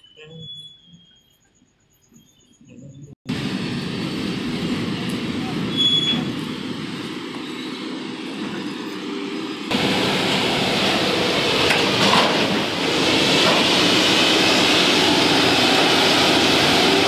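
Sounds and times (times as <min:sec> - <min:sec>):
track machine running on rails: 0:02.7 - 0:17.0.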